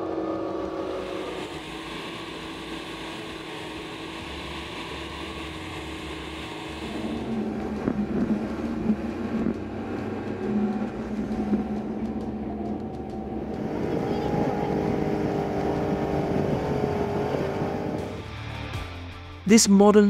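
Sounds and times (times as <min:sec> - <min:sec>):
heavy wood-processing machinery: 0:00.0 - 0:17.8
diesel rumble: 0:00.0 - 0:18.7.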